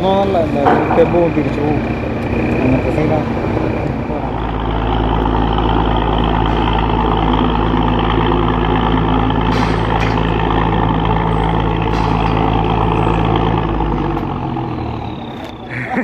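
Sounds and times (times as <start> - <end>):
large engine droning: 0.0 - 16.0.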